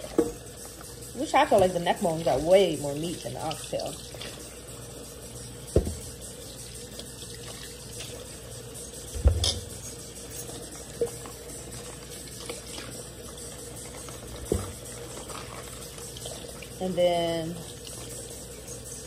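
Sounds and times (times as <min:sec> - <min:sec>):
tap water running: 0:00.0 - 0:19.0.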